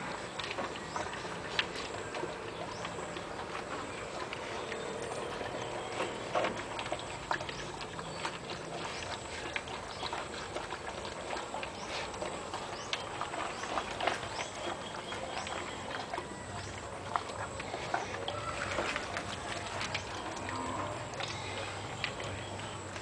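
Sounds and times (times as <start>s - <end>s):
dogs crunching kibble: 0.0s - 23.0s.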